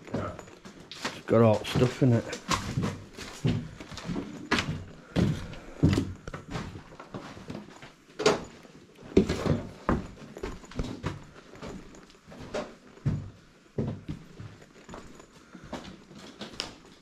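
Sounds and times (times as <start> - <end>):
footsteps crunching on rubble: 0.0 - 17.0.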